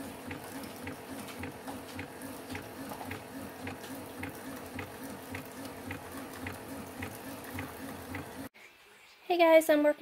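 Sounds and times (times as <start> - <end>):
coffee maker pump buzzing: 0.0 - 8.5.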